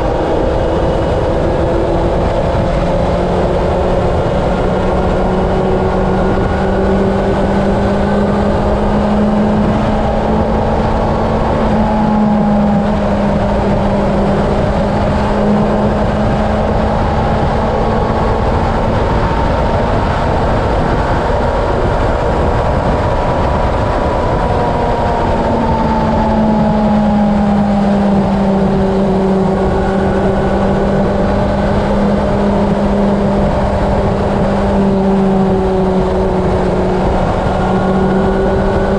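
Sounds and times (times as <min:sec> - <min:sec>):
motorcycle engine cruising: 0:00.0 - 0:38.9
wind rushing on microphone: 0:00.0 - 0:38.9.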